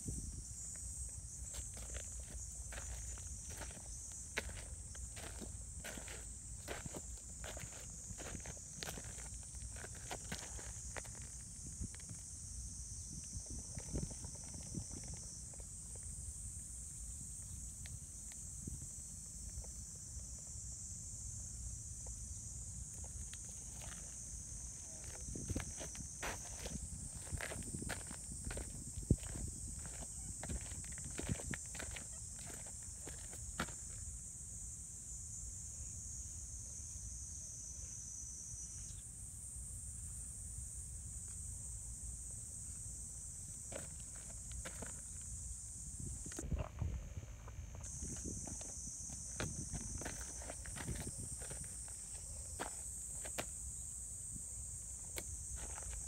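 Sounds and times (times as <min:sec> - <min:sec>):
chorus of insects: 0:00.0 - 0:56.0.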